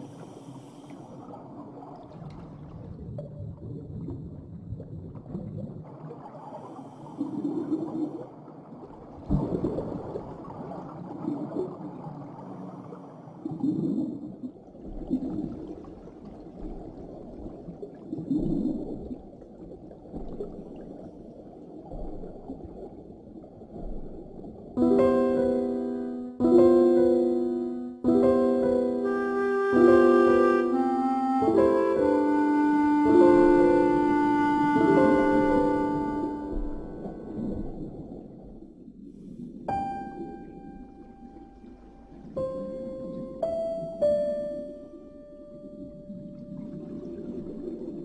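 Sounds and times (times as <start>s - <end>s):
underwater bubble gurgling: 0.0s - 25.8s, 29.8s - 48.0s.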